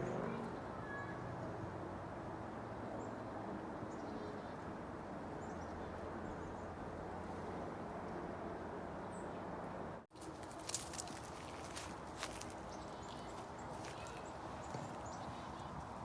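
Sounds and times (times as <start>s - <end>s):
low outdoor hum: 0.0s - 16.0s.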